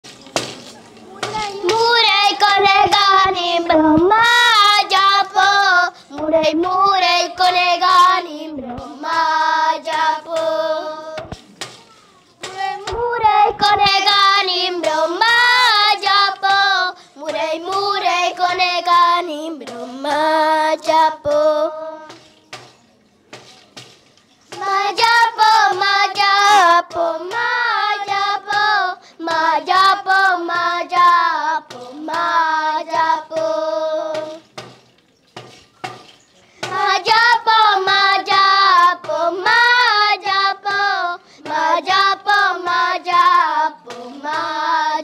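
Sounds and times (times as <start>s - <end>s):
children singing in unison: 1.3s - 11.4s, 12.4s - 22.3s, 24.5s - 34.4s, 36.6s - 45.0s.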